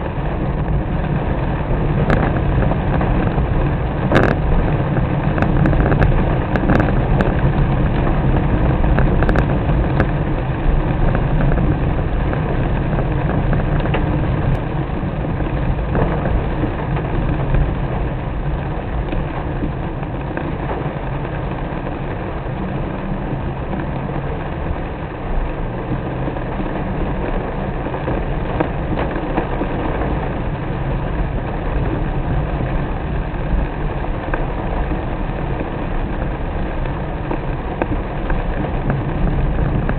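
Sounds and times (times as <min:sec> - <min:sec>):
car engine and road noise: 0:00.0 - 0:39.9
rain hissing: 0:00.0 - 0:39.9.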